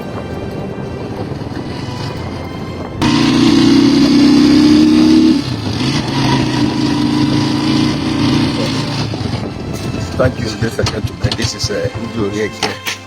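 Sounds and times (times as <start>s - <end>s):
vehicle engine running: 1.4s - 12.0s.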